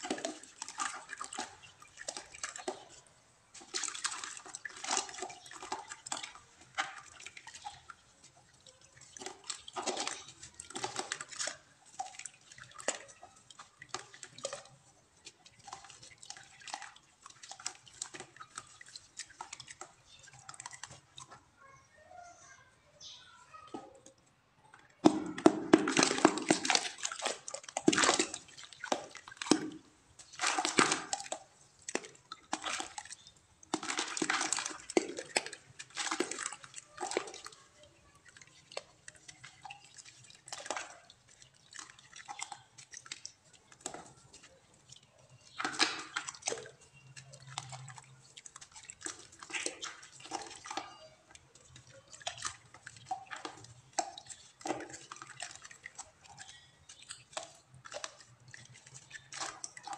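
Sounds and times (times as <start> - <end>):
splashing and dripping water: 0.0 - 22.2, 23.0 - 59.9.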